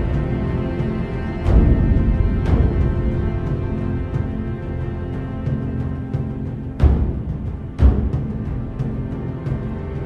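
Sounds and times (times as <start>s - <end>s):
tense film score: 0.0s - 10.0s.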